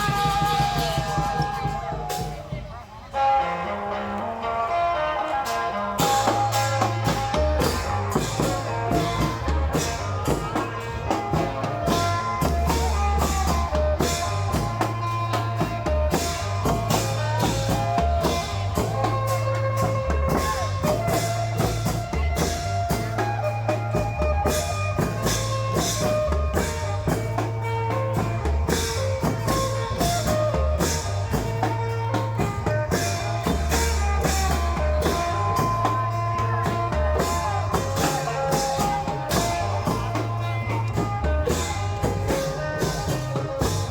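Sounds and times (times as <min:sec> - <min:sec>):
drum band playing festival music: 0:00.0 - 0:43.9.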